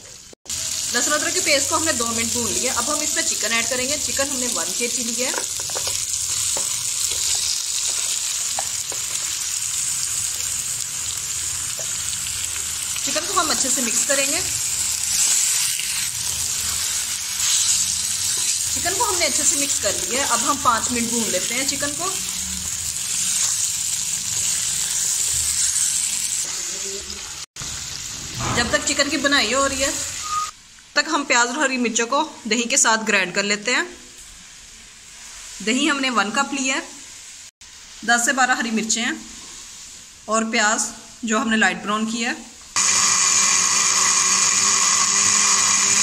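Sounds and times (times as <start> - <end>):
chicken sizzling in hot oil: 0.0 - 30.6, 34.3 - 41.2, 42.7 - 46.0.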